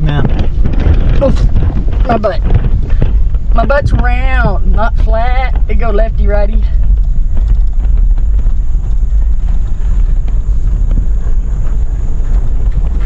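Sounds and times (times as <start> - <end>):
truck cab low rumble: 0.0 - 13.0.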